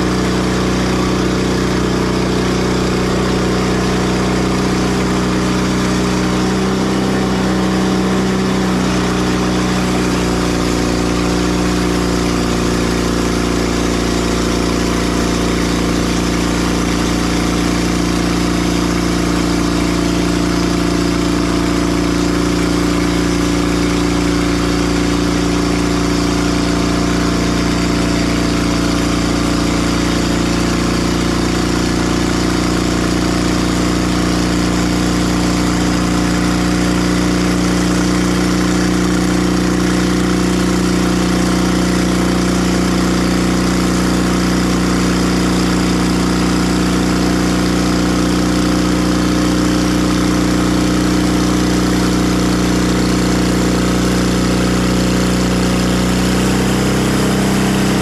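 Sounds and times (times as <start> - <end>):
bandsaw mill engine drone: 0.0 - 58.0.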